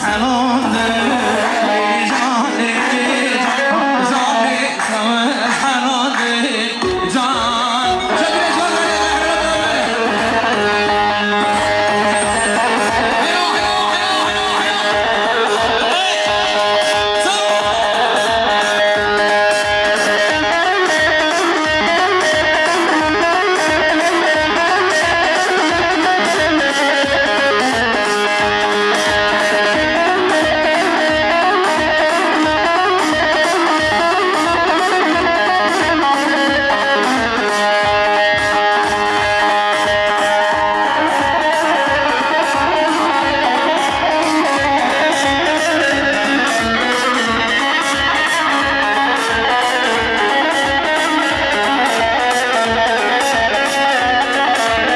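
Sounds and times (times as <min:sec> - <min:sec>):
plucked string lead melody: 0:06.8 - 0:54.9
steady drum beat: 0:06.8 - 0:54.9.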